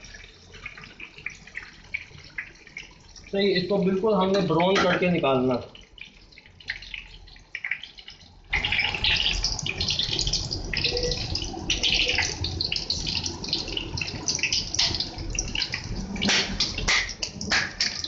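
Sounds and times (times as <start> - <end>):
dough sizzling in hot fat: 0.0 - 18.0.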